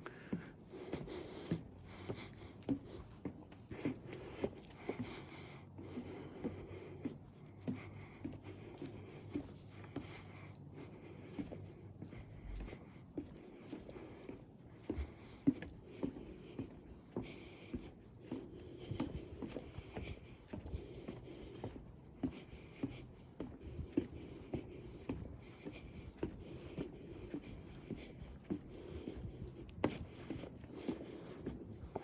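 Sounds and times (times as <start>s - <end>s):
footsteps on wooden boardwalk: 0.0s - 32.0s.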